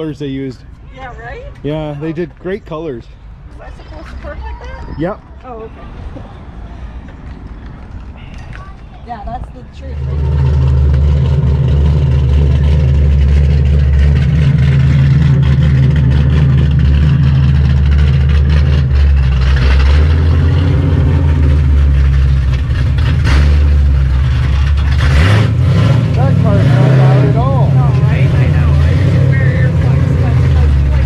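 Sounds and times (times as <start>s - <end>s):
car engine rumbling: 0.0s - 31.0s.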